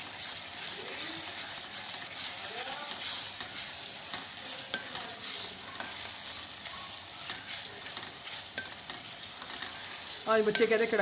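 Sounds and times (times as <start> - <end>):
onions sizzling in hot oil: 0.0 - 11.0
wooden spoon scraping a pan: 0.1 - 11.0.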